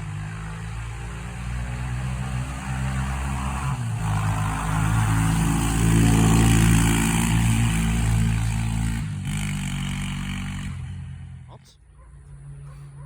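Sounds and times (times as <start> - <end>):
atv engine revving: 0.0 - 11.6.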